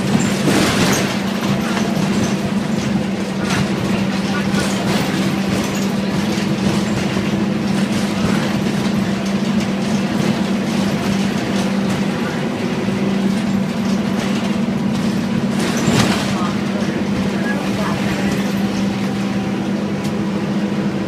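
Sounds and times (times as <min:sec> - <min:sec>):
bus engine hum: 0:00.0 - 0:21.0.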